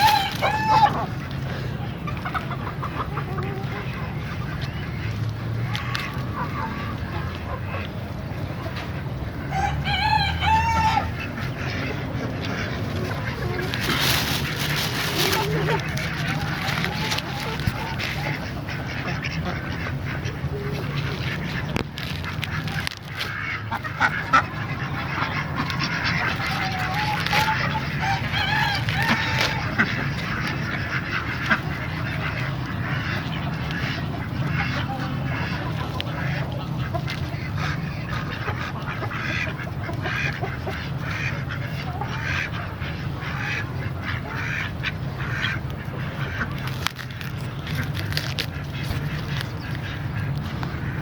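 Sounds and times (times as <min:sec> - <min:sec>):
fowl calling: 0:00.0 - 0:07.9, 0:09.4 - 0:51.0.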